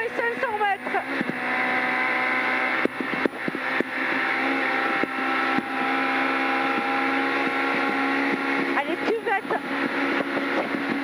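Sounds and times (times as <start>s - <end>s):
car engine pulling hard: 0.0s - 11.0s.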